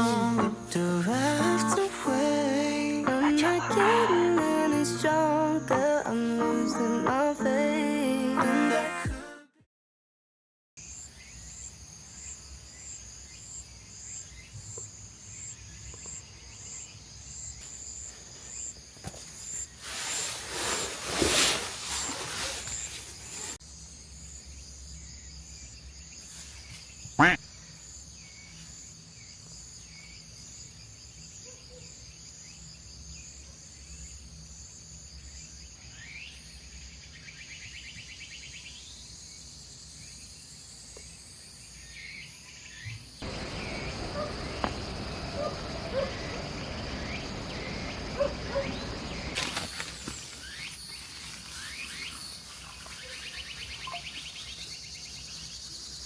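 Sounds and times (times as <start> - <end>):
insects chirping: 0.0 - 8.1, 10.8 - 56.0.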